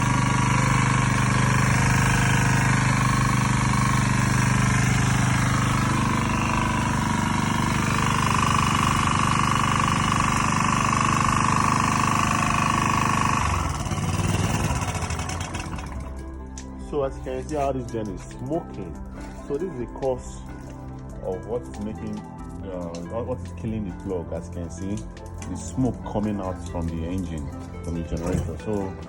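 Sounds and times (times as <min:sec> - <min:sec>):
portable generator engine running: 0:00.0 - 0:29.0.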